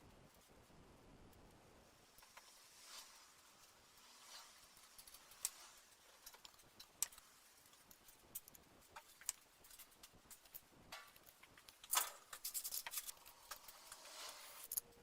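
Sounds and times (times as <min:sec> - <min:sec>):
room hiss: 0:00.0 - 0:14.8.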